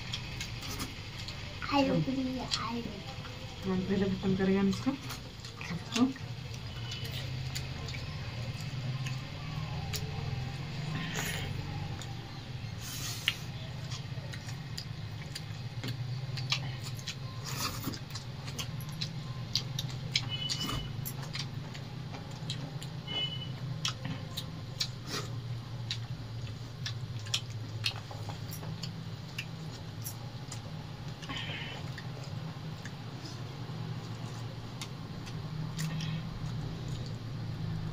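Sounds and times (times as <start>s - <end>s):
chewing and fingers on plates: 0.0s - 37.9s
steady low hum: 0.0s - 37.9s.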